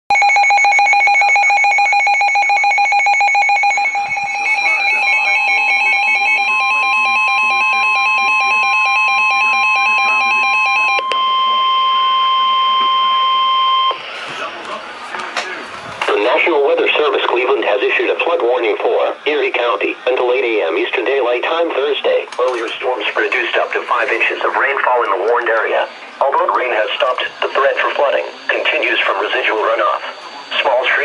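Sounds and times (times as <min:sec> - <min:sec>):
rapidly pulsing electronic beep: 0:00.1 - 0:14.1, 0:16.1 - 0:31.0
steady warning alarm tone: 0:00.1 - 0:14.6, 0:16.0 - 0:31.0.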